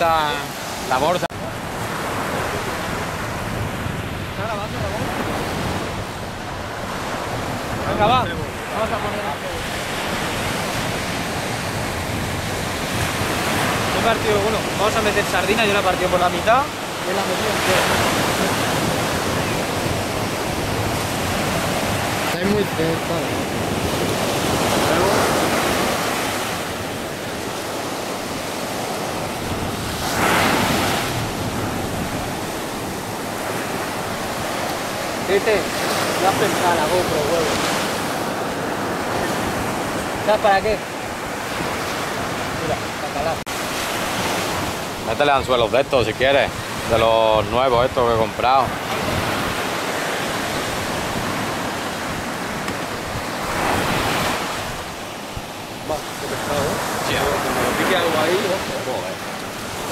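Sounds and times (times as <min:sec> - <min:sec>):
small waves breaking on sandy shore: 0:00.0 - 0:59.9
wind on microphone: 0:00.0 - 0:59.9.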